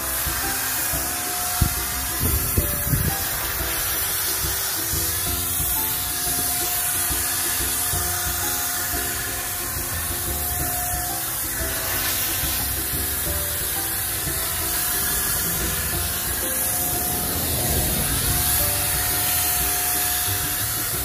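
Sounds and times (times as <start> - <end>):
background music with held notes: 0.0 - 21.0
paint sprayer hissing: 0.0 - 21.0.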